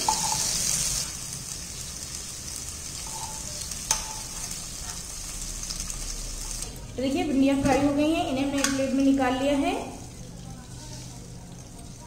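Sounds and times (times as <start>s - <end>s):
okra sizzling in oil: 0.0s - 7.4s, 8.2s - 12.0s.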